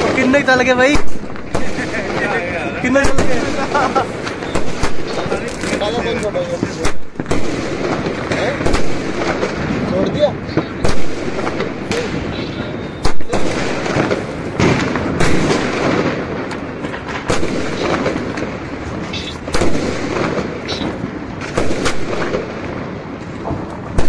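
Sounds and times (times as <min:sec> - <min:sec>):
firework bangs: 0:00.0 - 0:24.0
firework crackling: 0:00.0 - 0:24.0.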